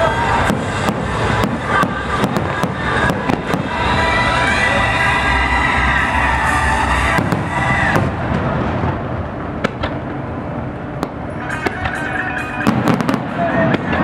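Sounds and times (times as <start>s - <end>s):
firework bangs: 0.0s - 14.0s
fireworks crackling: 0.0s - 14.0s.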